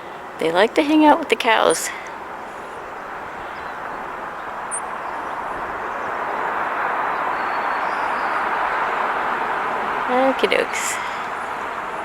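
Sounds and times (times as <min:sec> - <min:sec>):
tyres rushing on road: 0:00.0 - 0:12.0.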